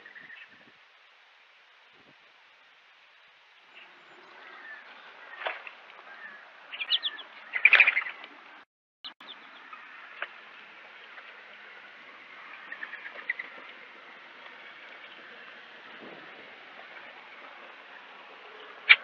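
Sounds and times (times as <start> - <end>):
birds chirping: 0.0 - 0.7, 2.8 - 19.0.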